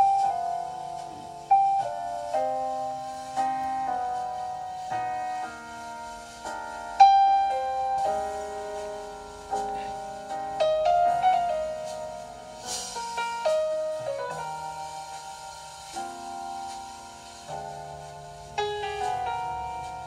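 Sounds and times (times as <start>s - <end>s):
piano notes and chords: 0.0s - 20.0s.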